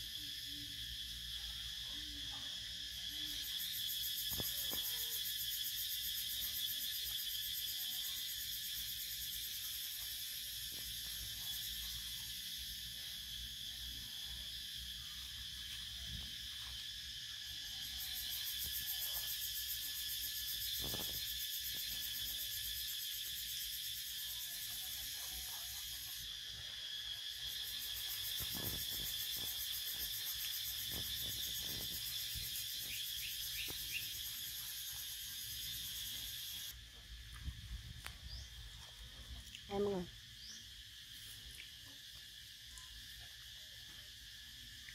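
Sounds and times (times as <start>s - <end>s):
insect chorus trilling: 0.0s - 44.9s.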